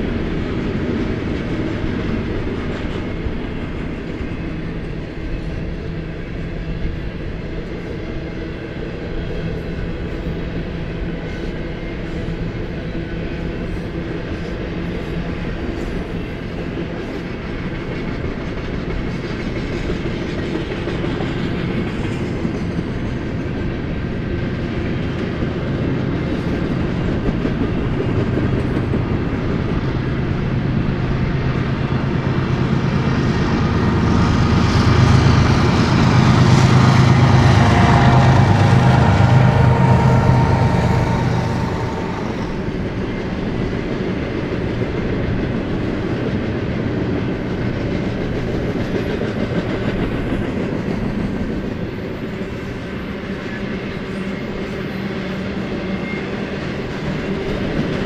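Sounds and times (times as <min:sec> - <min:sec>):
diesel locomotive engine: 0:00.0 - 0:58.0
train wheel and rail noise: 0:00.0 - 0:58.0.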